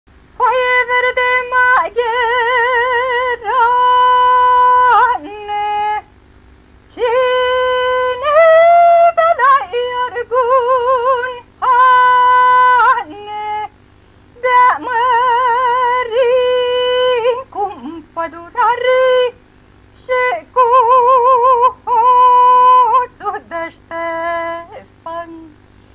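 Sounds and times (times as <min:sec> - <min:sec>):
woman singing folk song: 0:00.4 - 0:06.2, 0:06.9 - 0:13.8, 0:14.4 - 0:25.6.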